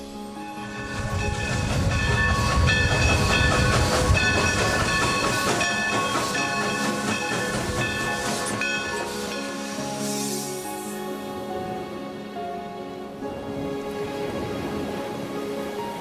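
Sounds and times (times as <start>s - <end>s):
music playing: 0.0s - 16.0s
train rumbling on rails: 0.1s - 16.0s.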